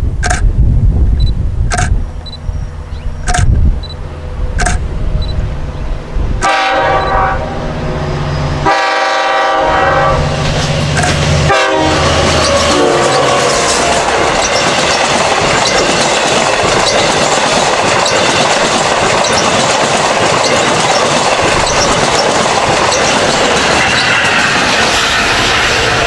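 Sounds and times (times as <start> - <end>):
rail joint clicks: 0.0 - 0.6, 1.2 - 5.4, 6.4 - 7.2, 10.2 - 26.0
train wheels rushing on track: 1.6 - 26.0.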